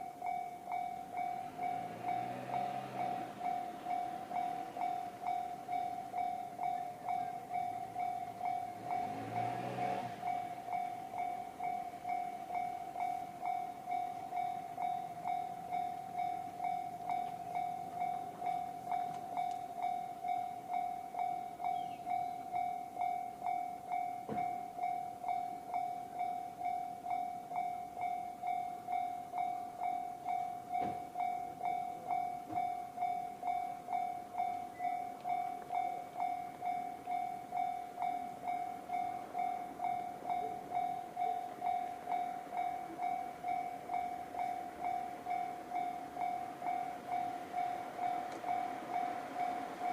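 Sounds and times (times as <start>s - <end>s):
level crossing bell: 0.0s - 49.9s.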